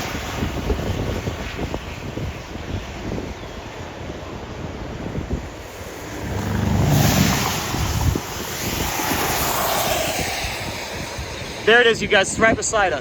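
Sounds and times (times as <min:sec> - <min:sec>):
tornado roar: 0:00.0 - 0:13.0
wind buffeting microphone: 0:00.0 - 0:13.0.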